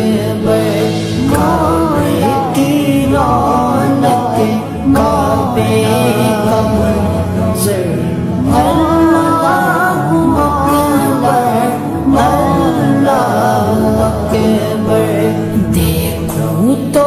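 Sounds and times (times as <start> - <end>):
solo voice singing devotional song: 0.0 - 17.0
sustained musical backing: 0.0 - 17.0.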